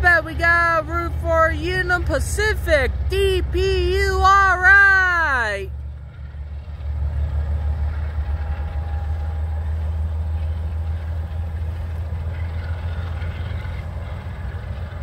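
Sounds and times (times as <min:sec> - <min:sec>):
diesel locomotives rumbling: 0:00.0 - 0:15.0
faint steady tones: 0:00.0 - 0:15.0
freight cars rolling on rails: 0:00.0 - 0:15.0.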